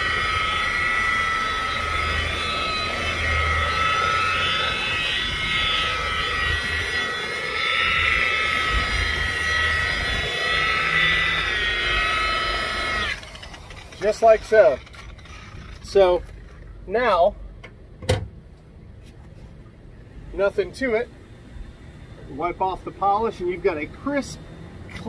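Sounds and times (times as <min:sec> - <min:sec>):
rotary polisher whine: 0:00.0 - 0:16.7, 0:20.1 - 0:25.0.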